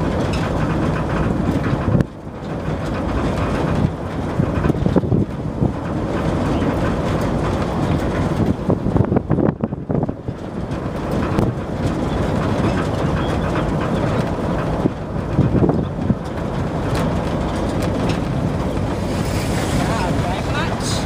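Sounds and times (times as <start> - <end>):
cab rattling and clattering: 0.0 - 21.0
road rumble: 0.0 - 21.0
truck engine running: 0.0 - 21.0.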